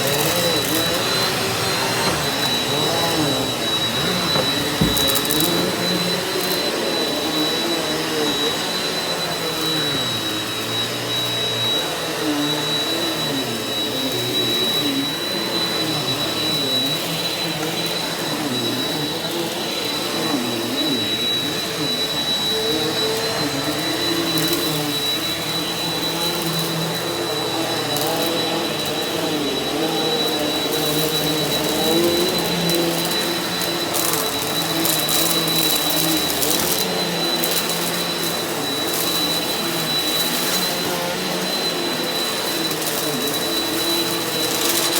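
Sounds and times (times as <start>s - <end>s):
vacuum cleaner running on carpet: 0.0s - 44.9s.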